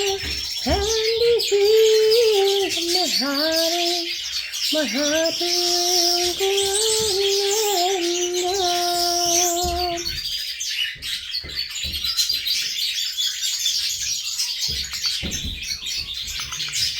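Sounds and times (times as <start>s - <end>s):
birds chirping and tweeting: 0.0s - 16.9s.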